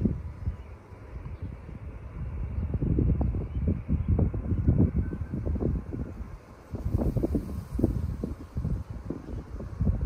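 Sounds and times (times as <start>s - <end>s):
distant jet engines rumbling: 0.0s - 10.0s
wind buffeting microphone: 0.0s - 10.0s.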